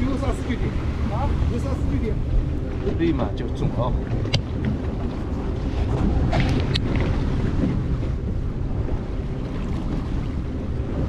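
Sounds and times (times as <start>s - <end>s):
low rumble of boat and water: 0.0s - 11.0s
wind buffeting microphone: 0.0s - 11.0s.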